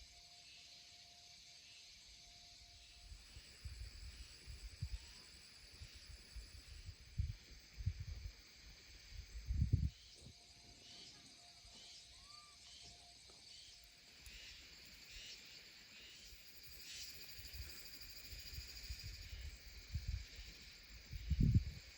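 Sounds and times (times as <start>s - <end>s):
birds and insects chirping: 0.0s - 21.9s.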